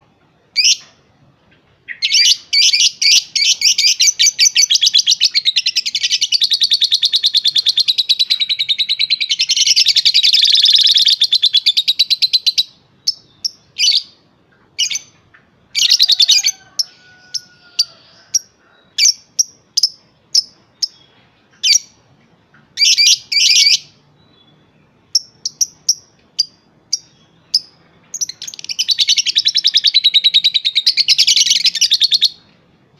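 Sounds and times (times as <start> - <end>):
lovebird chattering and chirping: 1.9 - 22.0, 22.6 - 24.4, 25.0 - 32.4.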